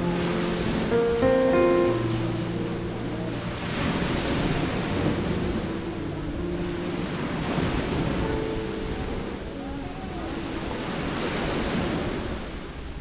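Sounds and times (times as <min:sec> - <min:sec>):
sea surf washing onto shore: 0:00.0 - 0:13.0.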